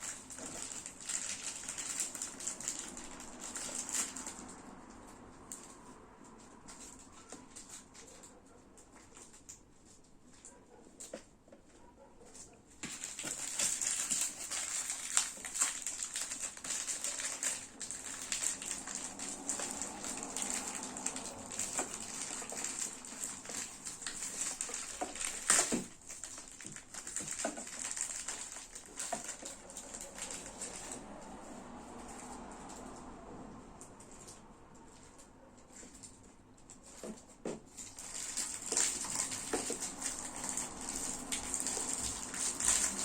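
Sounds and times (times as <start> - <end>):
packaging rustling and crinkling: 0.0 - 11.3, 12.3 - 32.4, 34.0 - 43.0.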